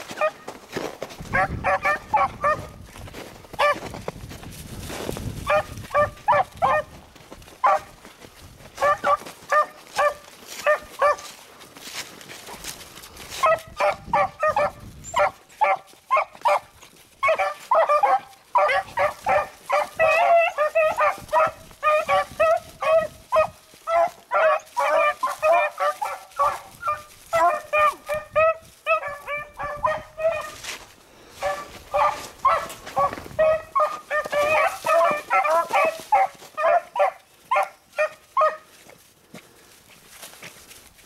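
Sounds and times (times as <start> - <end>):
beagles baying: 0.0 - 0.6, 1.2 - 2.8, 5.4 - 8.1, 8.7 - 11.4, 12.5 - 38.8.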